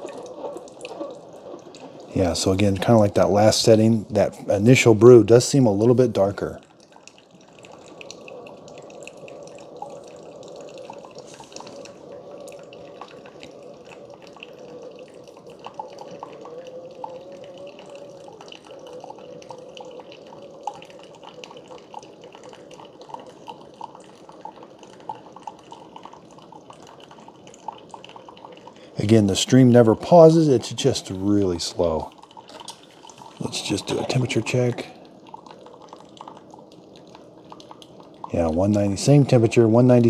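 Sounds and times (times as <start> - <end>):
coffee trickling into mug: 0.0 - 40.0
drips and splashes: 0.0 - 40.0.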